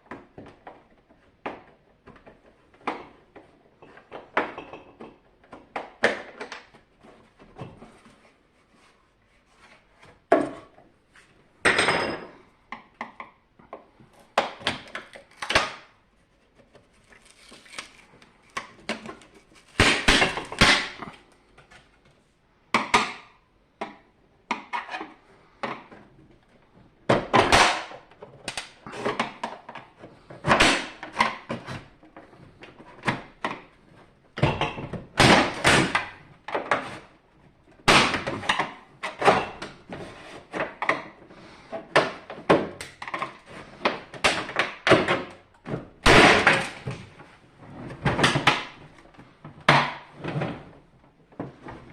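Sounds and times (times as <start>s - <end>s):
clicks and knocks of plastic parts: 0.0s - 8.2s, 12.2s - 37.1s, 37.7s - 50.2s.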